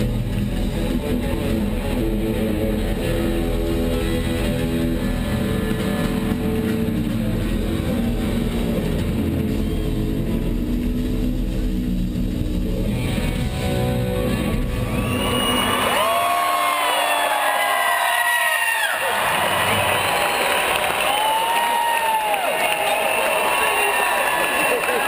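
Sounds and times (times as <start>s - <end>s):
live band with electric guitar: 0.0s - 25.0s.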